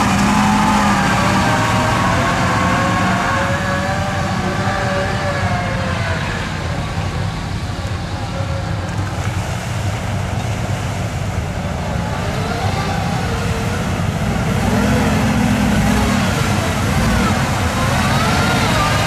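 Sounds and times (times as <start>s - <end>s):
truck engine under load: 0.0s - 19.0s
water churning around tyres: 0.0s - 19.0s.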